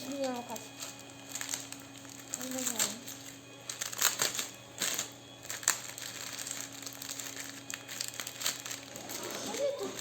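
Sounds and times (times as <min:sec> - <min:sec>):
flower bouquet crinkling and rustling: 0:00.0 - 0:10.0.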